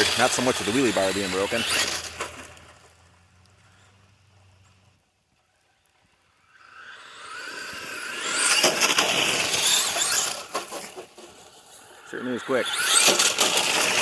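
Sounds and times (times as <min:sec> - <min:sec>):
rc truck motor and tyres: 0:00.0 - 0:14.0.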